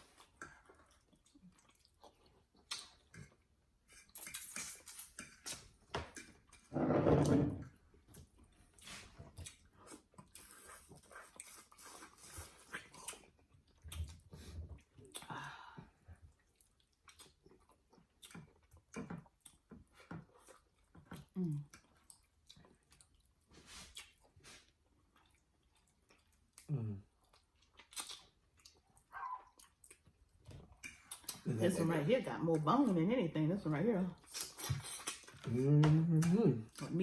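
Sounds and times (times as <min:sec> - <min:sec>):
chewing and lip smacking: 0:00.0 - 0:06.7, 0:08.0 - 0:15.4, 0:16.2 - 0:31.6, 0:34.2 - 0:37.0.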